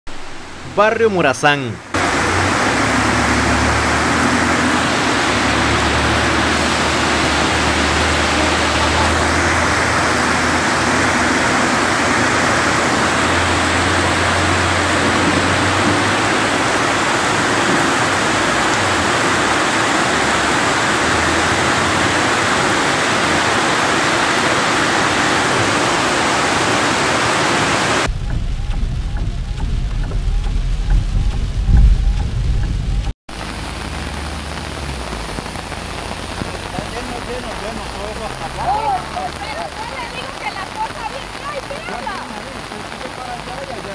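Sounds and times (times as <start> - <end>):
heavy rain and running water: 0.1 - 43.9
vehicles driving through floodwater: 0.7 - 28.1, 33.3 - 43.9.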